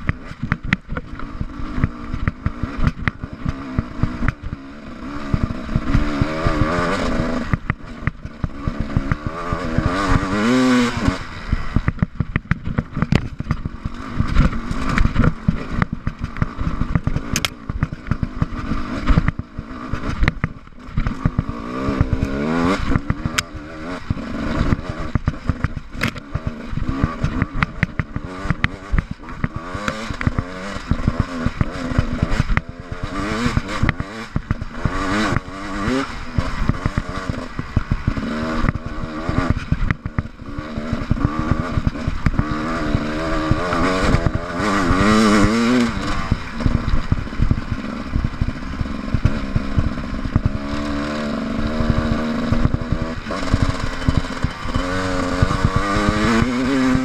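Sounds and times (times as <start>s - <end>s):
bike knocking and clattering: 0.0s - 4.7s, 11.8s - 57.0s
motorcycle engine revving: 0.0s - 57.0s.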